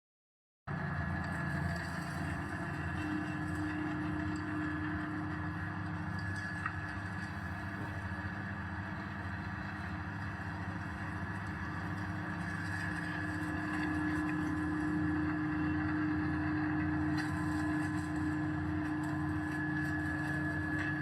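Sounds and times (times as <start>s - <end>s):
electric spice grinder running: 1.1s - 21.0s.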